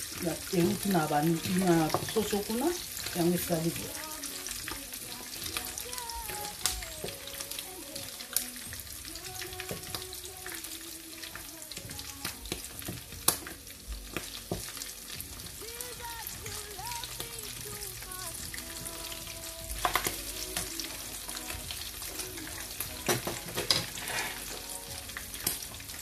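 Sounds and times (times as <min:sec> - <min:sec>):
chicken sizzling in a frying pan: 0:00.0 - 0:26.0.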